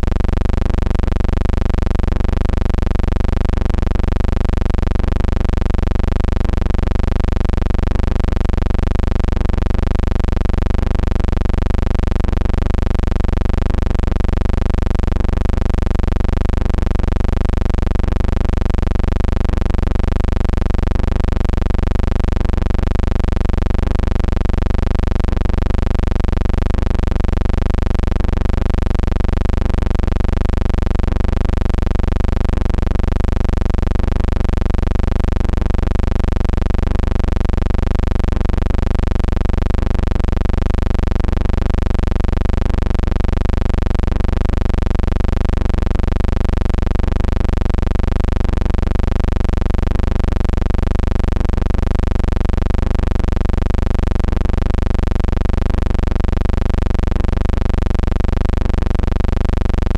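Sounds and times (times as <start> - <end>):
loud low buzzing hum: 0.0 - 59.9.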